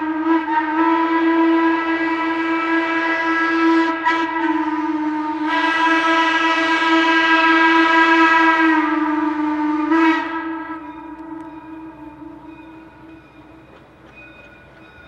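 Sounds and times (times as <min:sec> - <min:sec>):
steam whistle blowing: 0:00.0 - 0:14.6.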